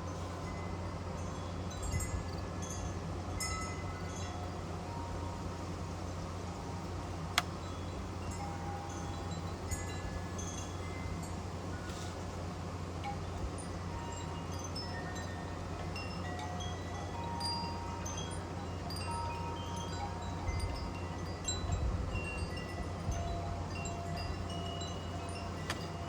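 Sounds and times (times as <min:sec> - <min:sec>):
wind chimes ringing: 0:00.0 - 0:06.9, 0:07.5 - 0:12.3, 0:13.0 - 0:26.0
low wind rumble: 0:00.0 - 0:26.0.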